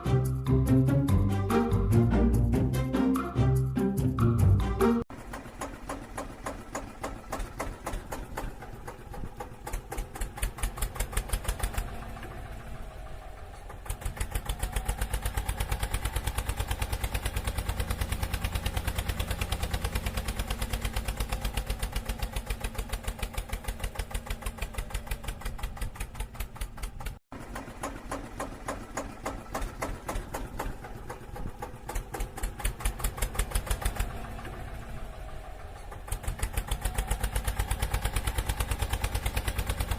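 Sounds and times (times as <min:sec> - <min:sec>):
tractor engine putter: 0:05.1 - 0:39.9.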